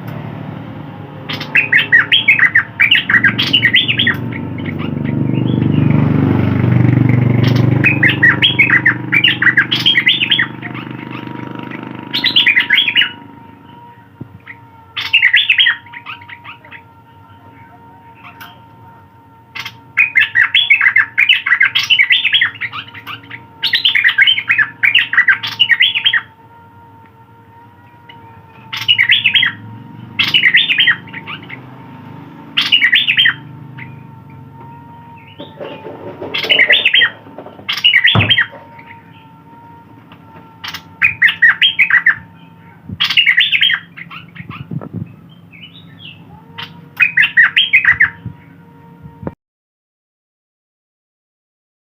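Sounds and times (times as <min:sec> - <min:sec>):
songbird chirping: 0:00.0 - 0:48.6.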